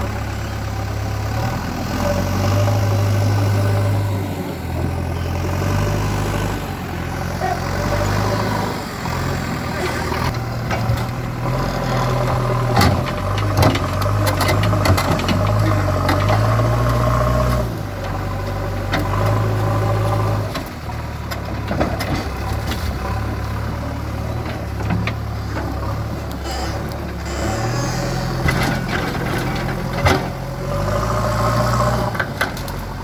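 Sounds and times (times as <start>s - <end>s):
backhoe diesel engine running: 0.0s - 33.0s.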